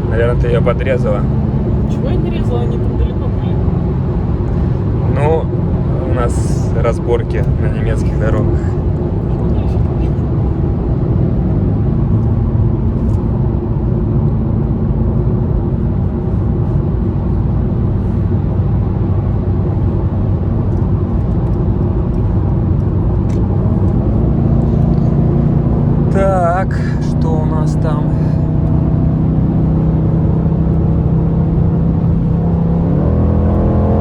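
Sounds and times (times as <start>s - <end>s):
car engine drone: 0.0s - 34.0s
road and wind noise: 0.0s - 34.0s.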